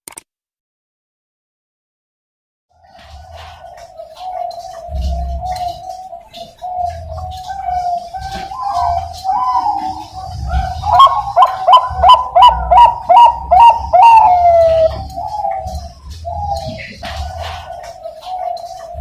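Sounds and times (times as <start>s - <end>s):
dove cooing: 2.9s - 19.0s.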